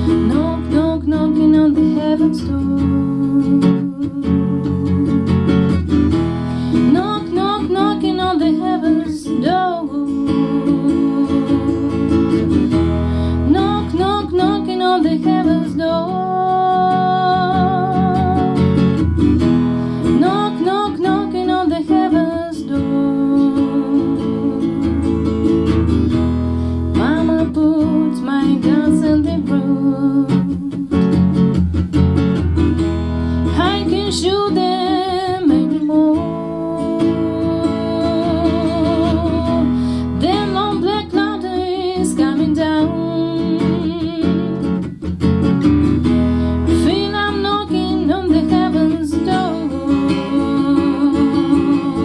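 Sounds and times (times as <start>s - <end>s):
person singing: 0.0s - 5.7s, 6.7s - 19.0s, 20.1s - 25.2s, 27.0s - 31.1s, 33.4s - 44.8s, 46.6s - 52.0s
acoustic guitar strumming: 0.0s - 52.0s.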